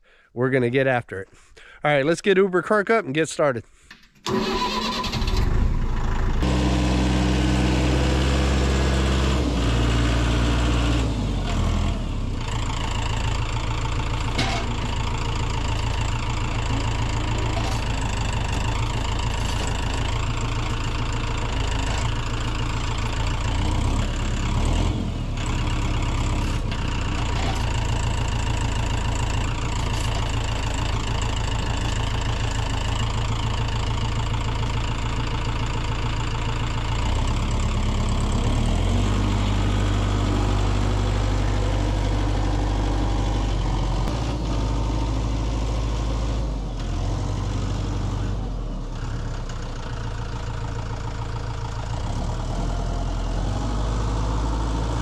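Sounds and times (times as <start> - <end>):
tractor engine running: 3.9 - 55.0.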